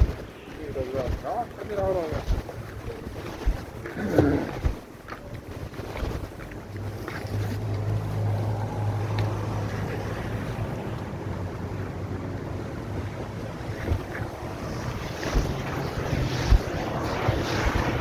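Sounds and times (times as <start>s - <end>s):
water noise: 0.0s - 18.0s
wind: 0.0s - 18.0s.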